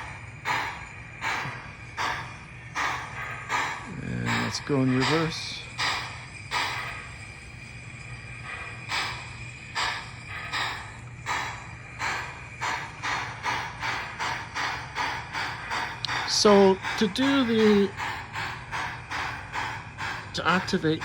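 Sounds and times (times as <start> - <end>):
model locomotive steam chuffs: 0.0 - 21.0
steady low hum: 0.0 - 21.0.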